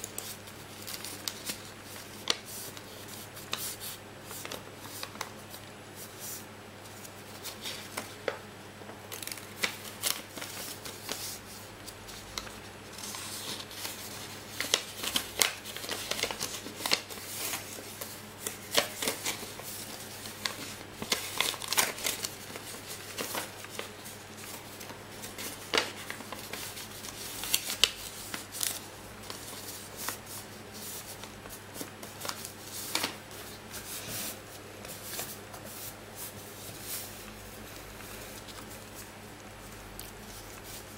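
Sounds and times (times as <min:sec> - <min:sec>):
paper crackling: 0:00.0 - 0:40.9
paper rustling and crinkling: 0:00.0 - 0:40.9.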